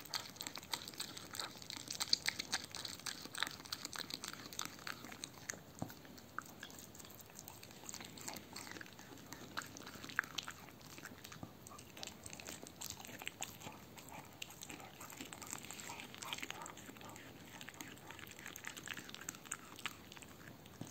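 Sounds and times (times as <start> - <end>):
dog licking and chewing: 0.0 - 20.9.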